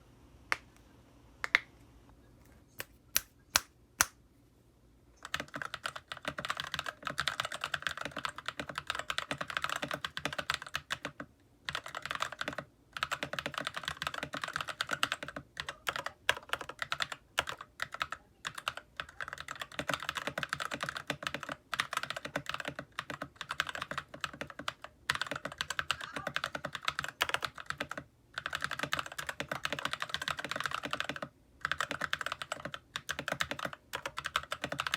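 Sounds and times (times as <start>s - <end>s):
typing on a mechanical keyboard: 5.2s - 34.9s.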